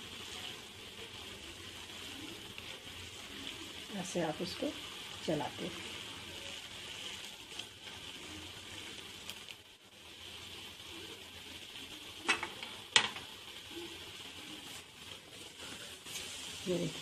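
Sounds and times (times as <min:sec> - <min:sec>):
syrup boiling with sizzling hiss: 0:00.0 - 0:17.0.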